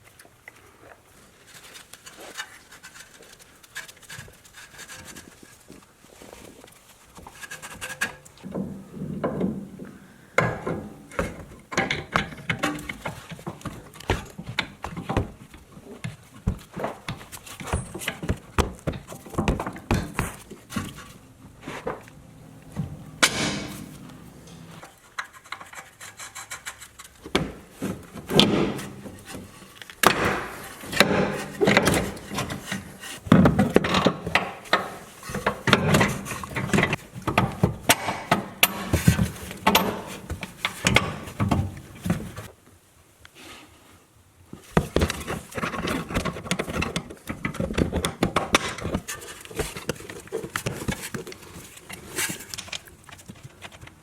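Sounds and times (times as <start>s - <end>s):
tools scraping and knocking on metal: 7.1s - 42.5s, 44.6s - 54.0s.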